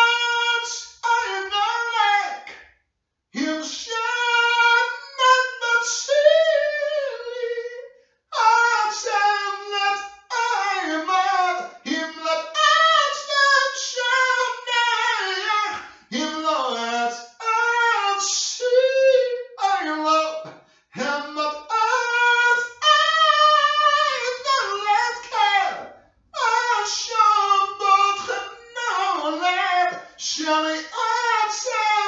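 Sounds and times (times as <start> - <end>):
man singing unaccompanied: 0.0 - 2.5, 3.4 - 32.0.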